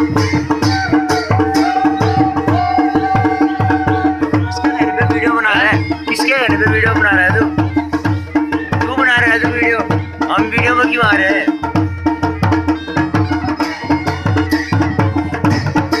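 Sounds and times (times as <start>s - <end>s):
drums beaten in fast rhythm: 0.0s - 16.0s.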